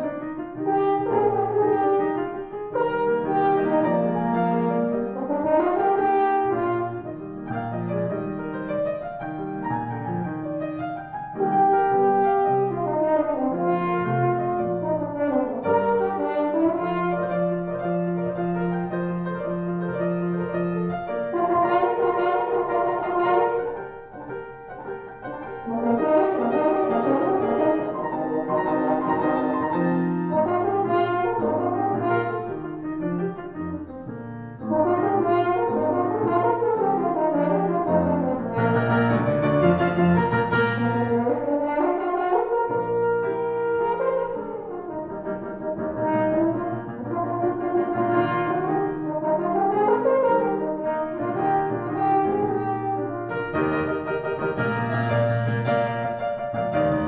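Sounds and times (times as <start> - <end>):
french horn melody: 0.0 - 57.0
grand piano: 0.0 - 57.0.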